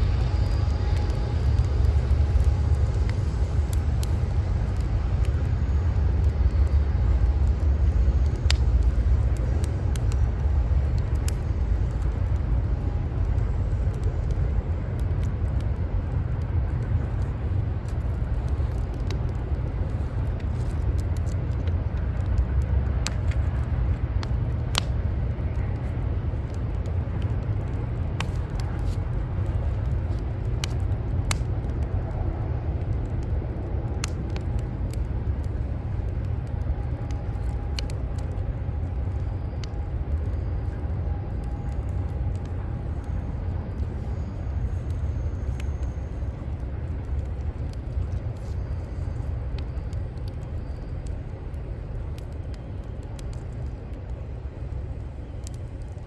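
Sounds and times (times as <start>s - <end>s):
city traffic rumble: 0.0s - 56.0s
wood fire crackling: 0.0s - 56.0s
sharp fire pops: 0.1s - 56.0s.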